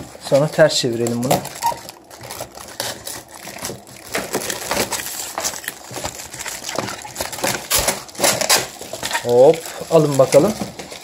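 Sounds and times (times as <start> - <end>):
cardboard and plastic wrap rustling: 0.0 - 11.0.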